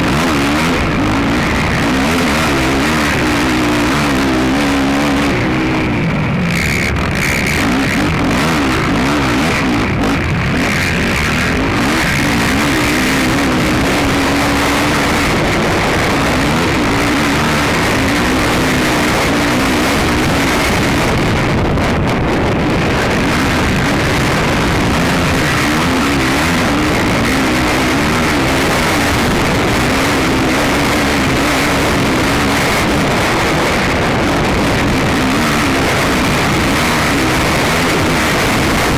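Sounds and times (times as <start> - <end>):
loud rush of noise: 0.0 - 38.9
quad engine revving: 0.0 - 38.9.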